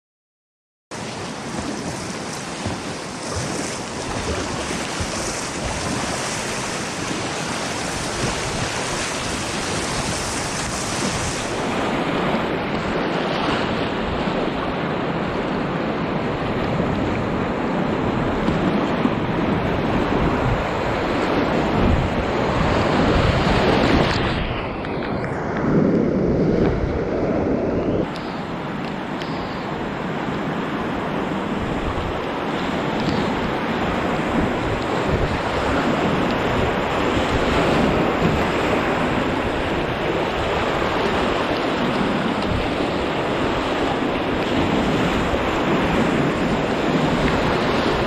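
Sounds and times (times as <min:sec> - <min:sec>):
rushing whitewater: 0:01.0 - 0:24.8, 0:28.0 - 0:48.0
wind noise on microphone: 0:01.0 - 0:48.0.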